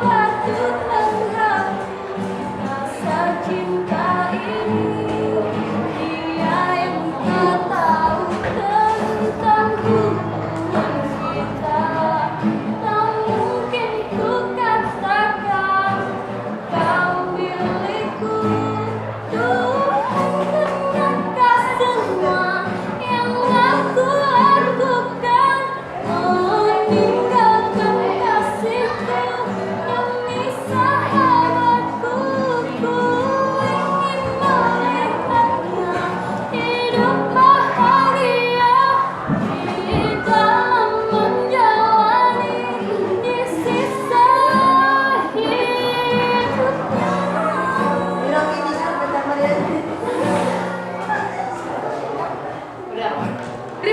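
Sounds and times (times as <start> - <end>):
students singing: 0.0 - 52.5.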